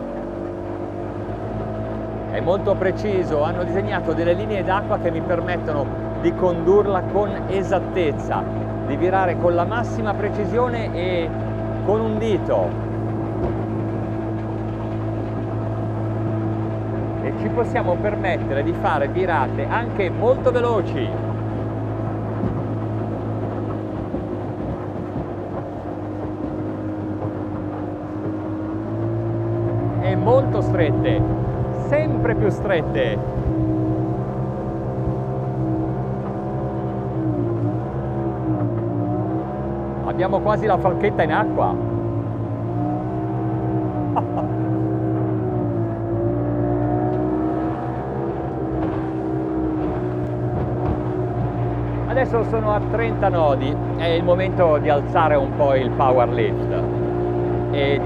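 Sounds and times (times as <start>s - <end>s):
outboard motor running: 0.0s - 58.0s
water and wind rushing along hull: 0.0s - 58.0s.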